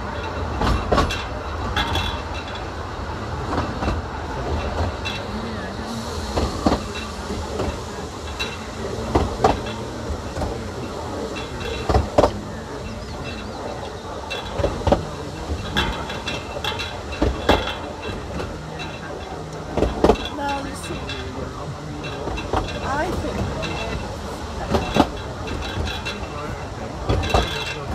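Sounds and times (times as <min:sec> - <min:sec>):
railway coach rumbling: 0:00.0 - 0:27.9
wheels clacking over rail joints: 0:00.0 - 0:27.9.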